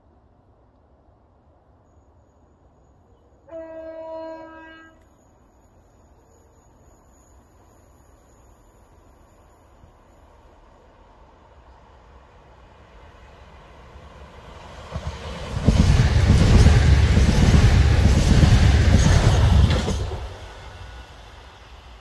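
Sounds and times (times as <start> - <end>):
electric train passing at speed: 0.0 - 22.0.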